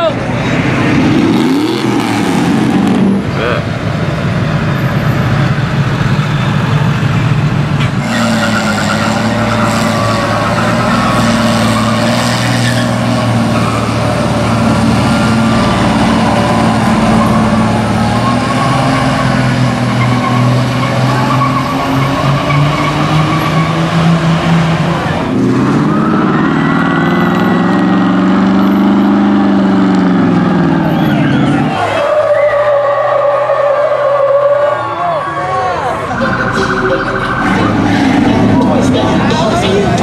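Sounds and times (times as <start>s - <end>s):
pickup truck engines running: 0.0s - 40.0s.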